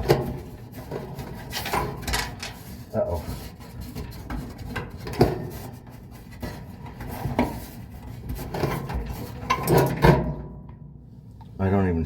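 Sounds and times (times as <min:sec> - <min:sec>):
hands and tools handling parts: 0:00.0 - 0:10.4.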